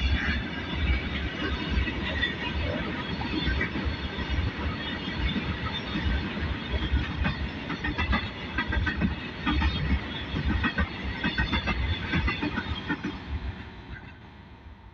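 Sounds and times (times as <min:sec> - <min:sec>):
wheels clacking over rail joints: 0:00.0 - 0:14.2
train wheels rumbling: 0:00.0 - 0:14.9.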